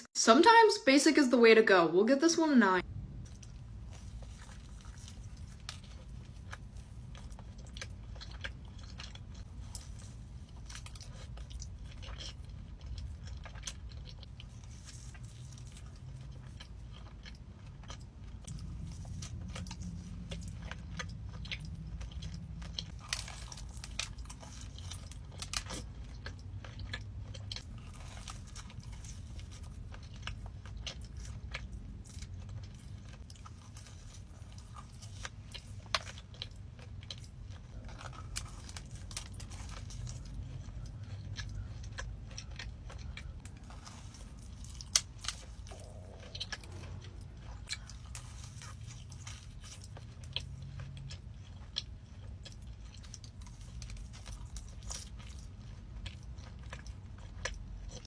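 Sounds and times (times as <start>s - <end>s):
steady low hum: 2.7s - 58.0s
chewing and biting food: 3.0s - 58.0s.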